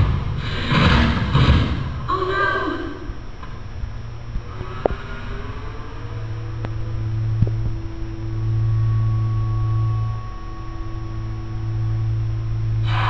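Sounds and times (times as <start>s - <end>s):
low orchestral drone over speakers: 0.0s - 13.0s.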